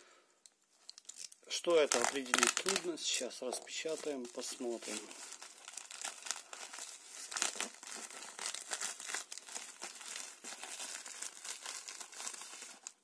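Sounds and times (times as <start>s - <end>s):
plastic packaging crinkling: 0.8s - 13.0s
plastic mailer tearing: 1.7s - 3.0s, 3.8s - 13.0s.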